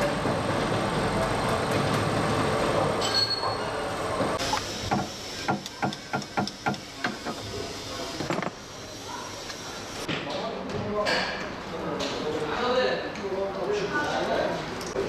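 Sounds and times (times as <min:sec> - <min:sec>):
workshop noise: 0:00.0 - 0:12.5.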